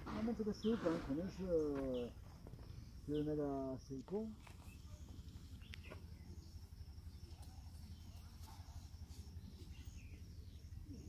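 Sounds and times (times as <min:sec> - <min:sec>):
distant bird chirps: 0:00.0 - 0:11.0
faint insect drone: 0:00.0 - 0:11.0.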